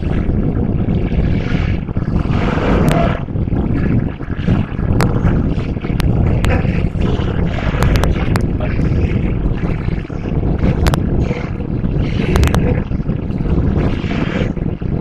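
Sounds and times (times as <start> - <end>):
sharp clicks and rattles: 1.8 - 15.0.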